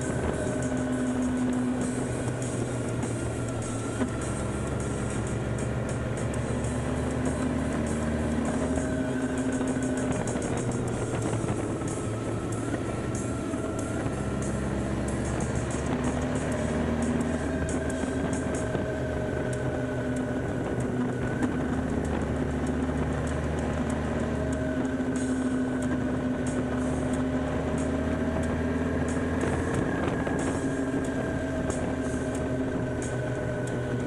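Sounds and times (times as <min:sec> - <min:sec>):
motorcycle engine cruising: 0:00.0 - 0:34.0
road noise: 0:00.0 - 0:34.0.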